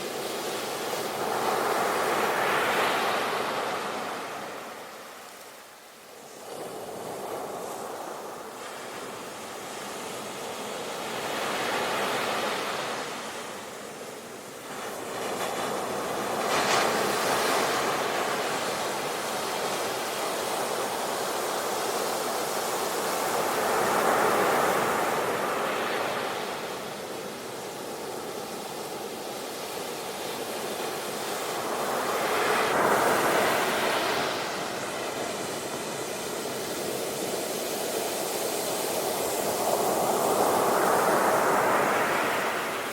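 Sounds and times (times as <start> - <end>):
ocean waves breaking on shore: 0.0 - 42.9.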